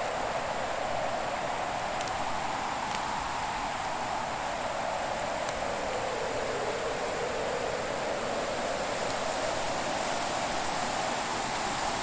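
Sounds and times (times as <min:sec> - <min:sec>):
faint fire crackles: 0:00.0 - 0:12.0.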